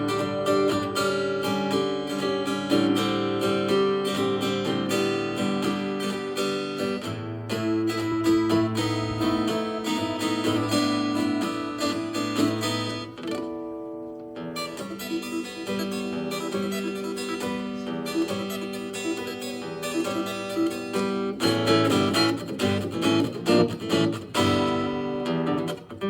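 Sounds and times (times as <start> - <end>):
fingerstyle guitar playing: 0.0 - 26.0.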